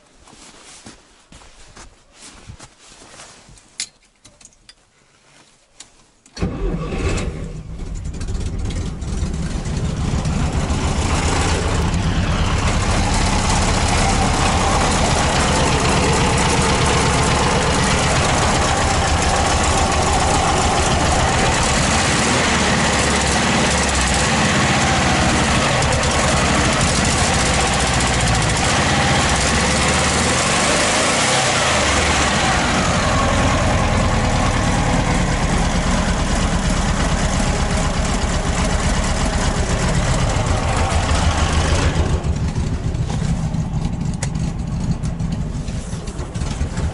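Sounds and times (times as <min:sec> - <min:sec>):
car engine starting and running: 0:06.4 - 0:46.9.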